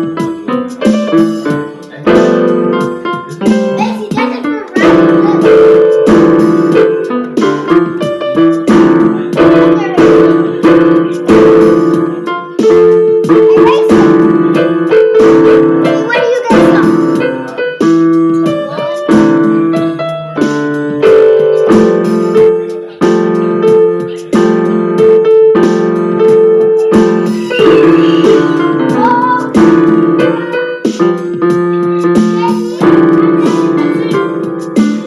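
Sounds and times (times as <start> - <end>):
piano chords: 0.0 - 35.0.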